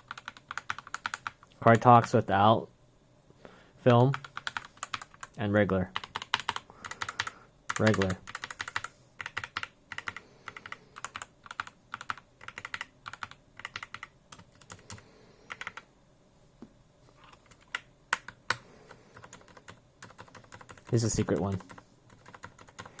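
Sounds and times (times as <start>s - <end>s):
mechanical keyboard typing: 0.0s - 2.1s, 4.0s - 15.8s, 17.2s - 23.0s.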